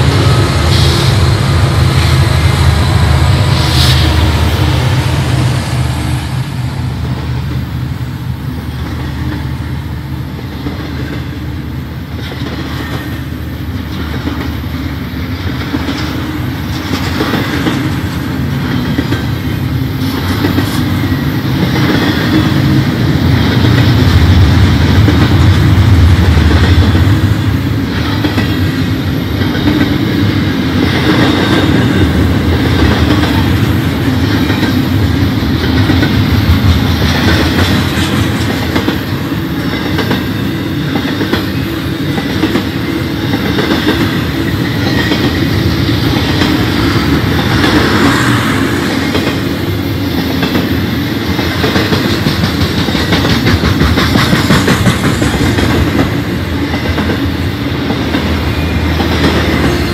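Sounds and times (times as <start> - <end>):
steel wheels rolling on rails: 0.0 - 59.9.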